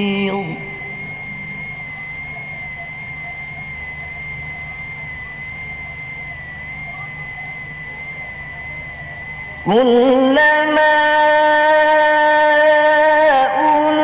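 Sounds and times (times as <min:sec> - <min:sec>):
background hum and hiss: 0:00.0 - 0:14.0
thin high whine: 0:00.0 - 0:14.0.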